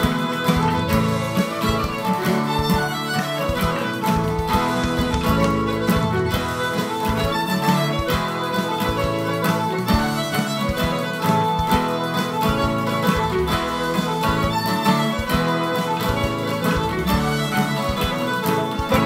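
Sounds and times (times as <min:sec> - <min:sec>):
fiddle playing a jig: 0:00.0 - 0:19.0.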